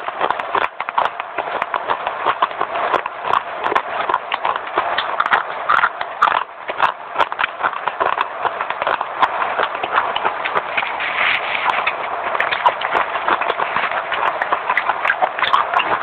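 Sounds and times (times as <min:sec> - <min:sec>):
person chewing crunchy clay: 0:00.0 - 0:16.0.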